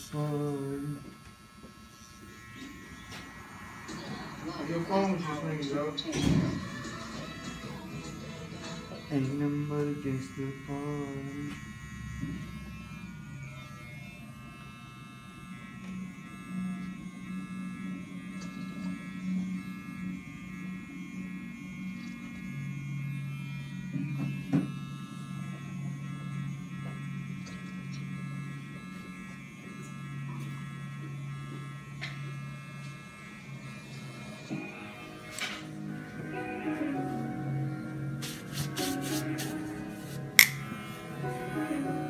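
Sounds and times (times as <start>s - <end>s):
electric hair clippers buzzing: 0.0s - 42.0s.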